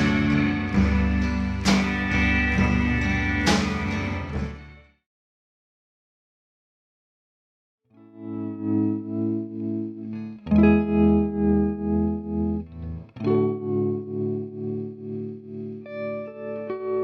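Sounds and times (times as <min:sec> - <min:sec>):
electric guitar pulsing chords: 0:00.0 - 0:04.8, 0:08.0 - 0:17.0.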